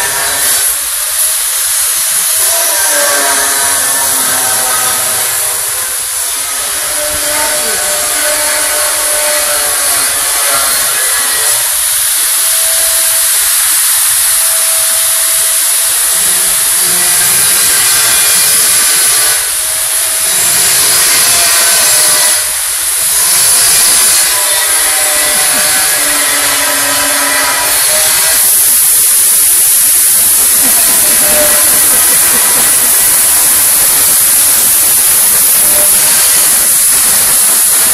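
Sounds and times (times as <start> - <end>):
power tool hissing: 0.0 - 37.9.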